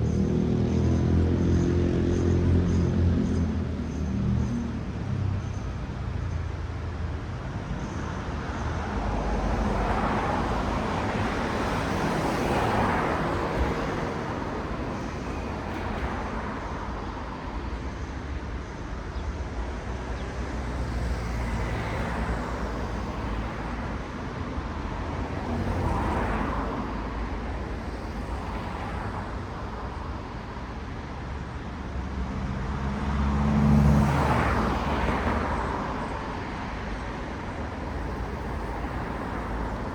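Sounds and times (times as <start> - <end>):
cars passing: 0.0 - 39.9.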